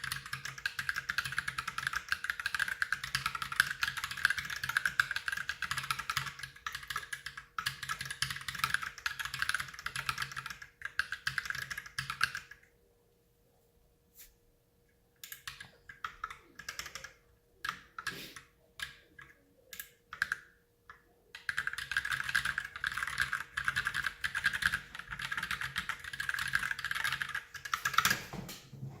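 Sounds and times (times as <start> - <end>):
keyboard typing: 0.0 - 12.7, 15.2 - 29.0.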